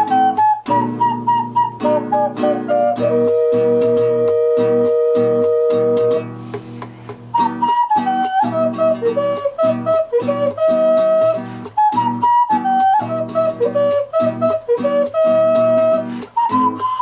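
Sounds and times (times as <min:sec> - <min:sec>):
ocarina melody: 0:00.0 - 0:17.0
strummed guitar: 0:00.0 - 0:17.0.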